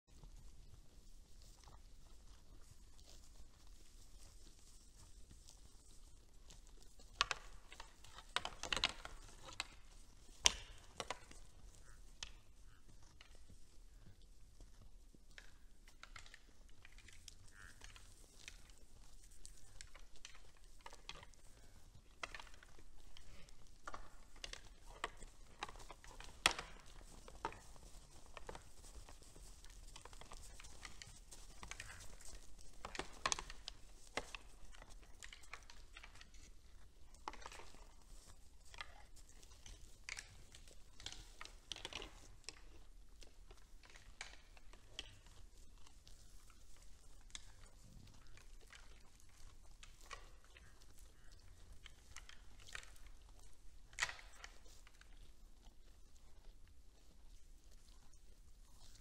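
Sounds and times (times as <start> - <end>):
deer feeding crunches: 0.1 - 59.0.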